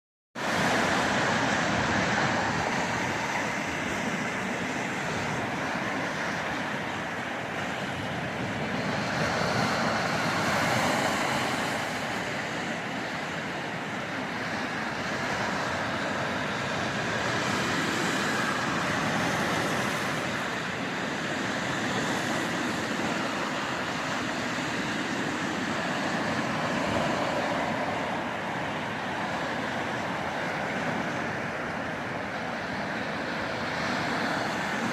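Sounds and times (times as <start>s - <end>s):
waves breaking on beach: 0.4s - 34.9s.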